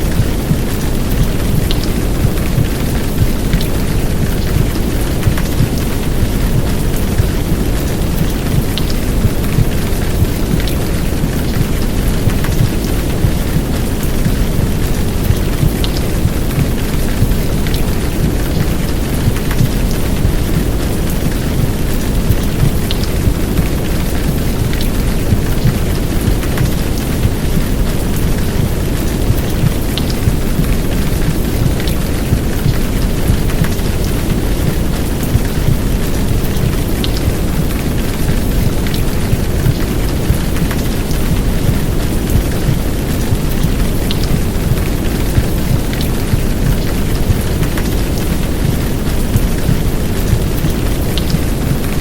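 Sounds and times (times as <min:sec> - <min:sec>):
heavy rain: 0:00.0 - 0:52.0
rain drop ticks: 0:00.0 - 0:52.0
white noise hiss: 0:00.0 - 0:52.0.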